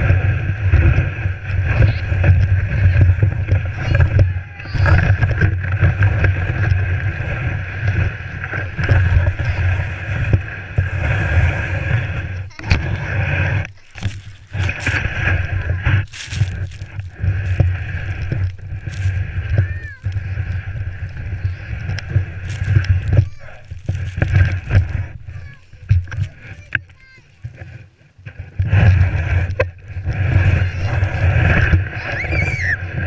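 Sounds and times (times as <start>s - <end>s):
sled runners scraping over snow: 0.0s - 33.0s.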